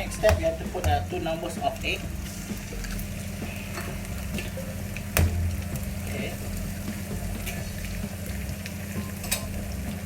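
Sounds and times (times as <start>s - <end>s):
food frying in a wok: 0.0s - 10.0s.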